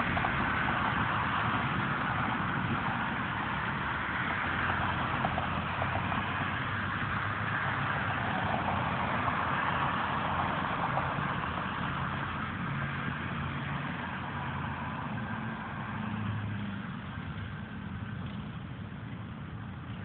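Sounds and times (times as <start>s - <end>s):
road and wind noise: 0.0s - 20.0s
vehicle engine humming: 0.0s - 20.0s.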